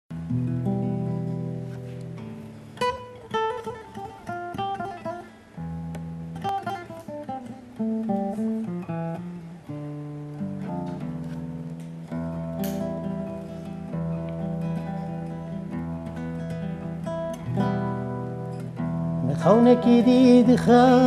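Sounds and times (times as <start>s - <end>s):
classical acoustic guitar: 0.1s - 21.0s.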